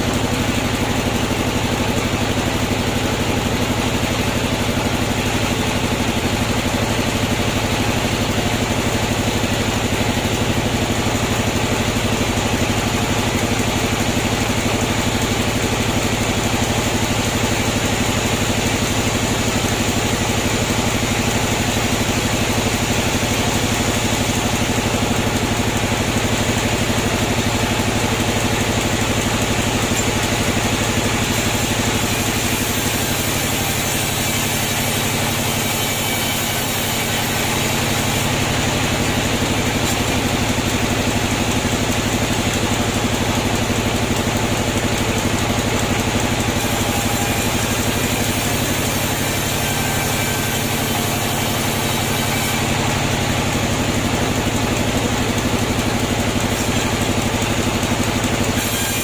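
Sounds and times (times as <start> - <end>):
sawmill machinery motor drone: 0.0 - 59.0.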